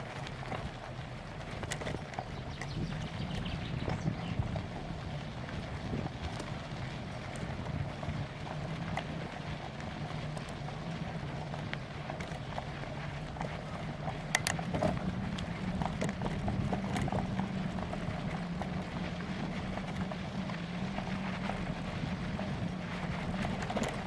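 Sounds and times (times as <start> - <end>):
bicycle rattling over bumps: 0.0 - 24.0
bicycle tyre and wind noise: 0.0 - 24.0.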